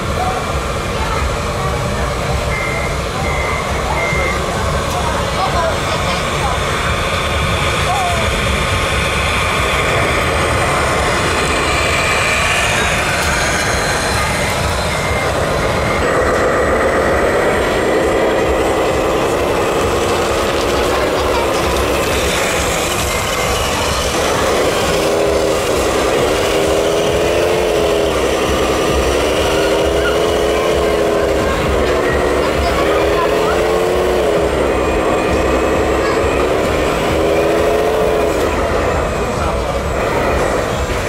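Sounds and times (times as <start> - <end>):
crowd hubbub: 0.0 - 41.0
model tractors driving through sand: 0.0 - 41.0
motor whine: 0.0 - 41.0.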